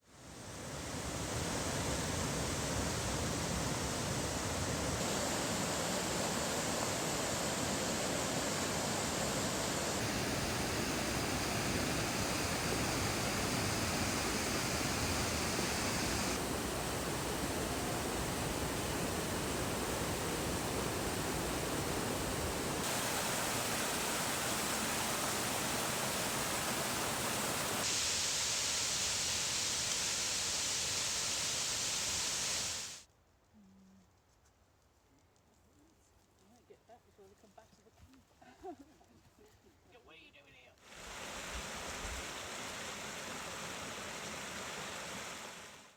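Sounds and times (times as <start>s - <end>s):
waterfalls rushing: 0.8s - 33.0s, 40.9s - 45.9s.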